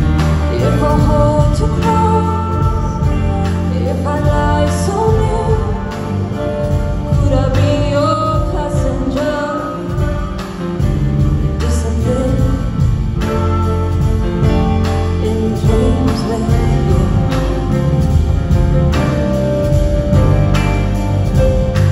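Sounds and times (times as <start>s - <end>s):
woman singing lead: 0.0s - 20.3s
live band playing: 0.0s - 21.9s.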